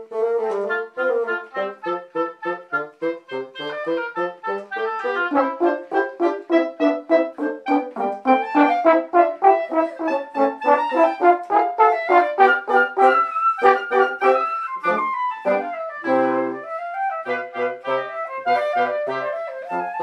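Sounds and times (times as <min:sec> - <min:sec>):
wind ensemble playing lively piece: 0:00.0 - 0:20.0.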